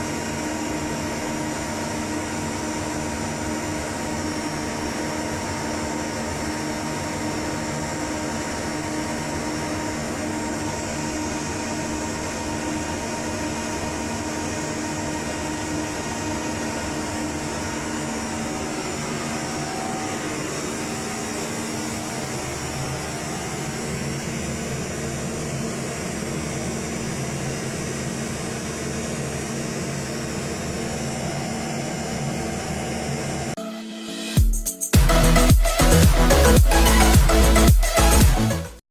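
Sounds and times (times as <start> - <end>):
cooling fans whirring: 0.0 - 33.6.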